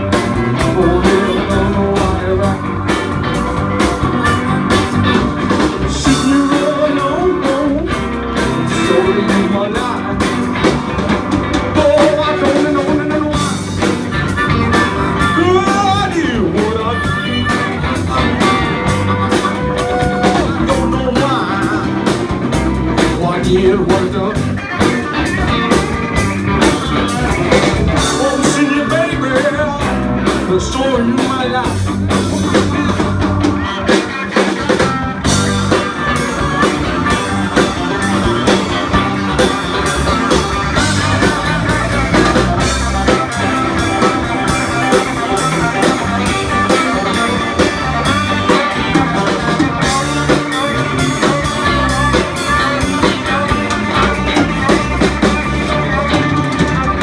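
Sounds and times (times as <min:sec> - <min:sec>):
blues-rock band playing: 0:00.0 - 0:57.0
electric guitar: 0:00.0 - 0:57.0.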